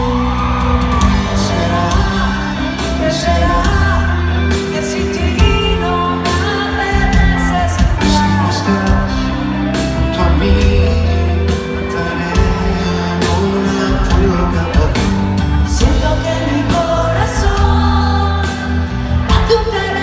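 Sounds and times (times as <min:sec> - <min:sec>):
live band playing pop: 0:00.0 - 0:20.0
man and woman singing duet: 0:00.0 - 0:20.0.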